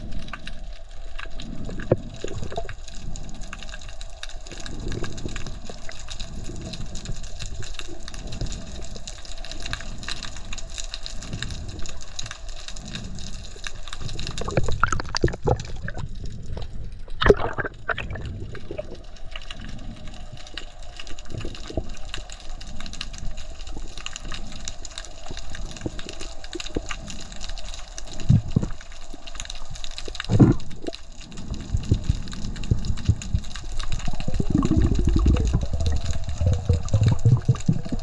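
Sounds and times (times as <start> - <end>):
underwater water noise: 0.0 - 38.0.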